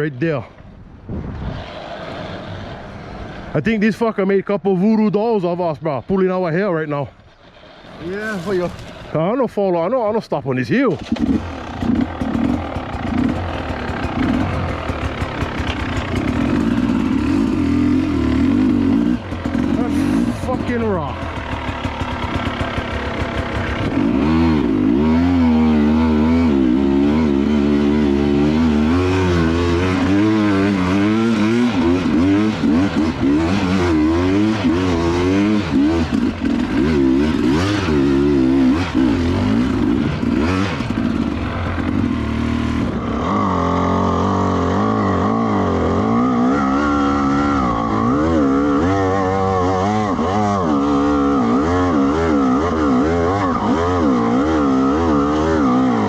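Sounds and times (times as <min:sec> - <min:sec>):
dirt bike engine revving: 0:01.0 - 0:56.0.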